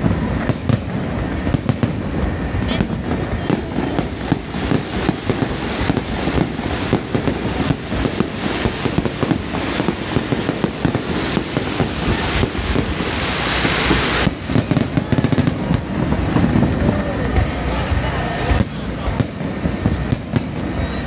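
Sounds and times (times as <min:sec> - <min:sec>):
fireworks booming and banging: 0:00.0 - 0:21.0
high firework hiss: 0:00.0 - 0:21.0.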